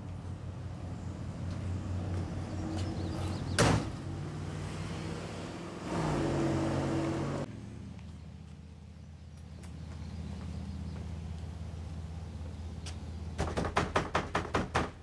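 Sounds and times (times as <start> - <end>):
low engine hum: 0.0 - 13.5.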